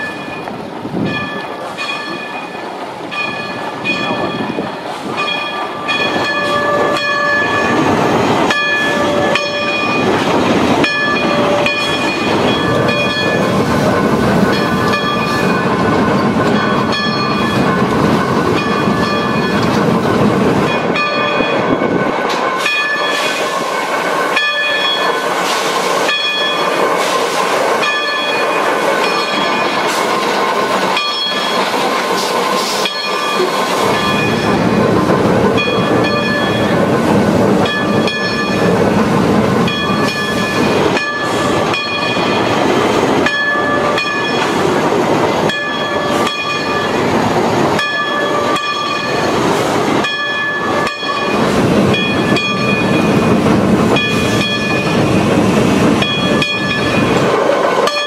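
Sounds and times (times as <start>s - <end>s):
steam locomotive chuffing: 0.0s - 58.0s.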